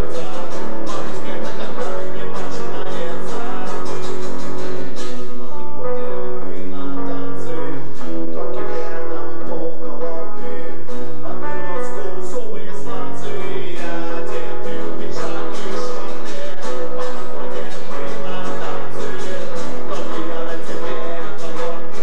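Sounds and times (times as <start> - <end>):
held low notes: 0.0 - 22.0
strummed acoustic guitar: 0.0 - 22.0.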